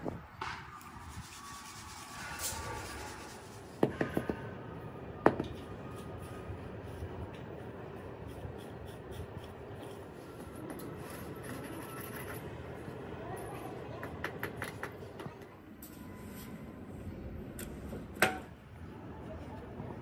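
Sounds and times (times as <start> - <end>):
workshop background noise: 0.0 - 20.0.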